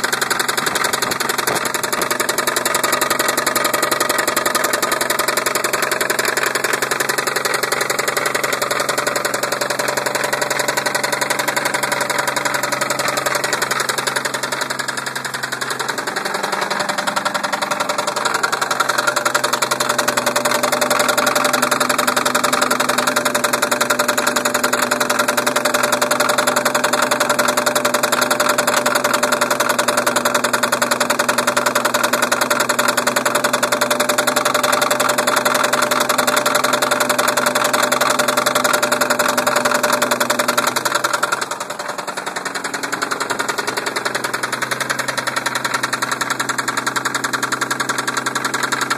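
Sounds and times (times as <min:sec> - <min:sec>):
car engine running: 0:00.0 - 0:48.9
rhythmic knock inside engine: 0:00.0 - 0:48.9.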